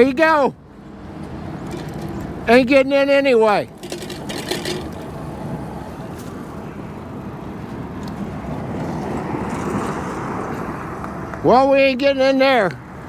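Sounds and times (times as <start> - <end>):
low rumbling wind: 0.0 - 12.0
road noise: 0.0 - 13.0.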